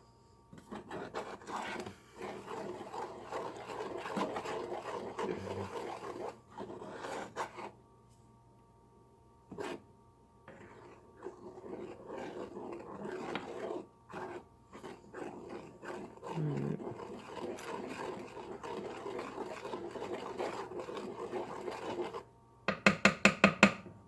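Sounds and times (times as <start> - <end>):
spoon stirring and scraping pan: 0.6 - 7.8, 9.5 - 9.8, 10.5 - 23.4.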